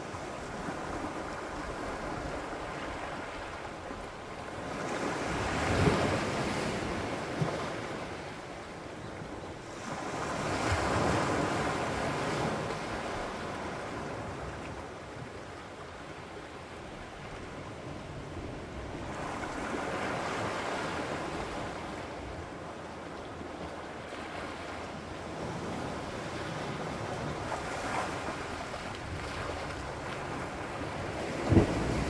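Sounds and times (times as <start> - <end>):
waves breaking on rocky shore: 0.0 - 9.0, 9.6 - 32.0.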